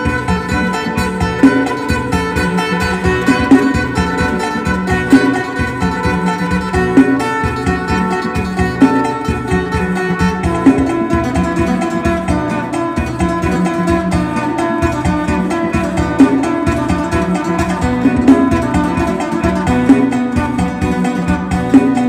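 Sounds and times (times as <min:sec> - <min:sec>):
plucked lute melody: 0:00.0 - 0:22.0
rhythmic backing: 0:00.0 - 0:22.0.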